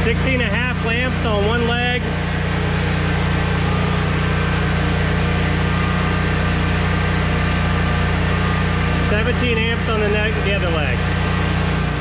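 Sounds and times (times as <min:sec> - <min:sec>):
generator engine humming: 0:00.0 - 0:12.0.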